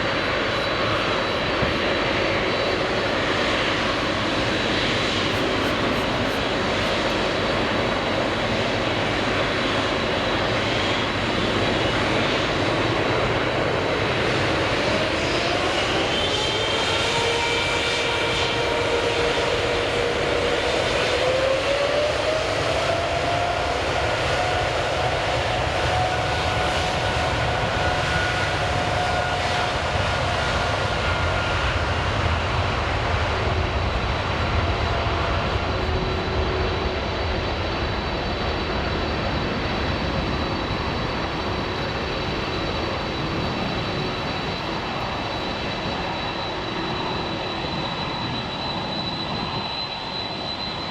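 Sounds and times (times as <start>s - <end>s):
jet engine whine: 0.0s - 50.9s
jet engines roaring: 0.0s - 50.9s.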